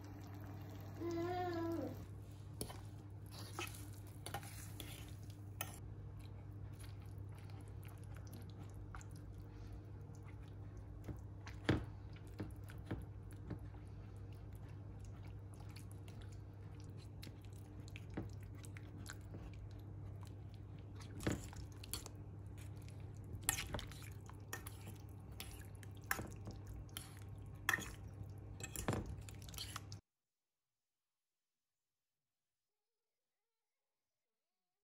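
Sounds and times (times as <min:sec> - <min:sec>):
fork squelching in casserole: 0:00.4 - 0:30.0.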